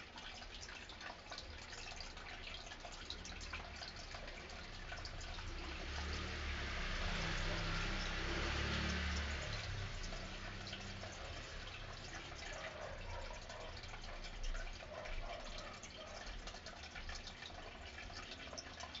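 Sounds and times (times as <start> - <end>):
aquarium water trickling and bubbling: 0.0 - 19.0
water drips and pops: 0.0 - 19.0.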